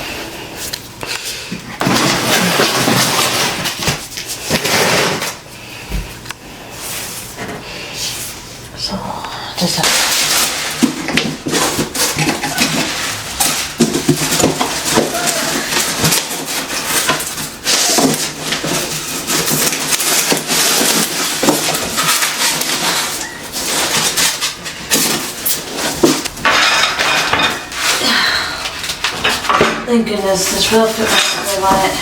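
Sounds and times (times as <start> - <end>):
packaging rustling and crinkling: 0.6 - 6.2, 9.7 - 32.0.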